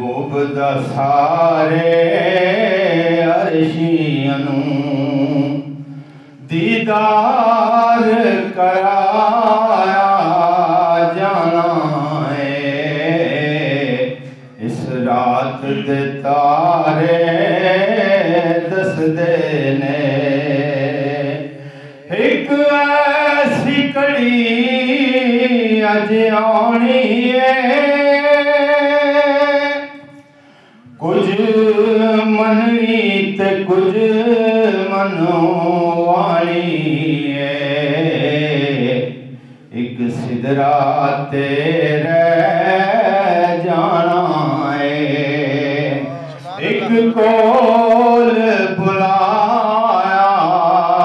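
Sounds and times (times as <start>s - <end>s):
man singing unaccompanied: 0.0s - 30.2s, 30.9s - 51.0s.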